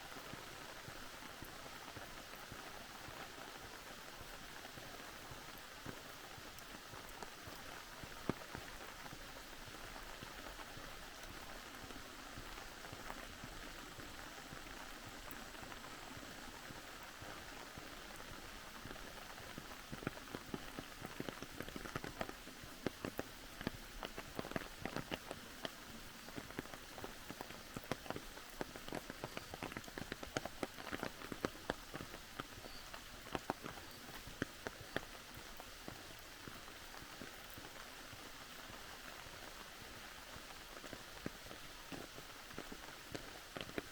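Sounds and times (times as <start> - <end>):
raindrops tapping on a surface: 0.1 - 43.9.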